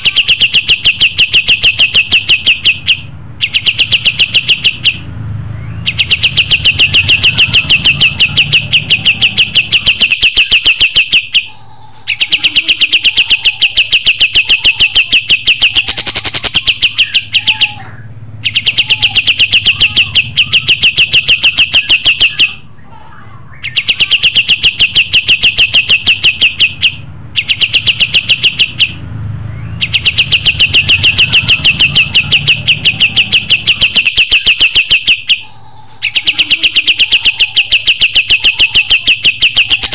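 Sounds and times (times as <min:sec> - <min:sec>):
songbird singing rapid high notes: 0:00.0 - 0:22.8, 0:23.5 - 0:39.9.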